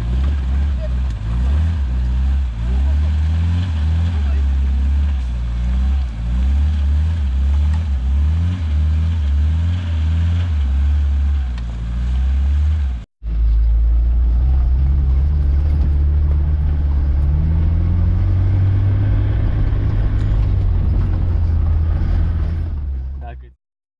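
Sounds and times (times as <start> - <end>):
engine drone inside cab: 0.0 - 23.5
engine revving: 0.0 - 23.6.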